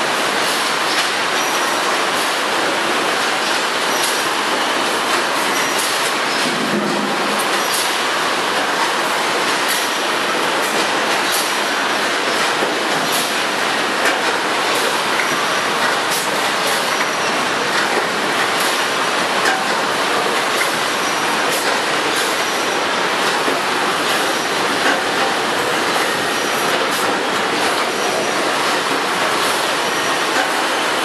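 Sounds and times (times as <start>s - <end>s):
filling and sewing machinery running: 0.0s - 31.0s.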